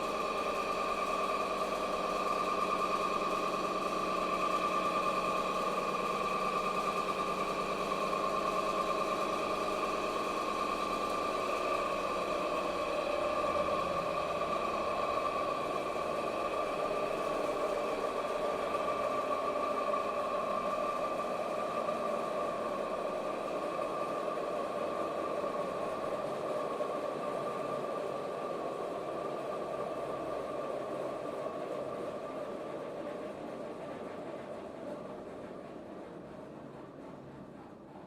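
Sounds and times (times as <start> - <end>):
feed mill machinery drone: 0.0 - 38.0.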